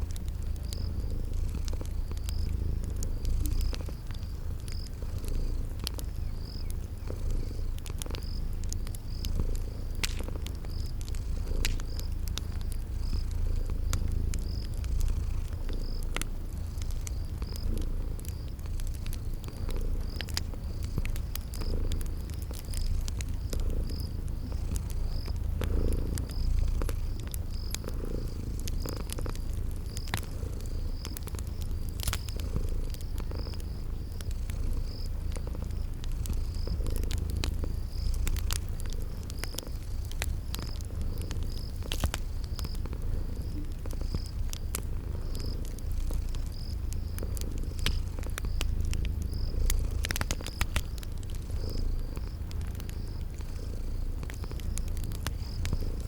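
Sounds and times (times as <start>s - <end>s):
cat purring: 0.0s - 56.0s
crickets chirping: 0.0s - 56.0s
wood fire crackling: 0.0s - 56.0s.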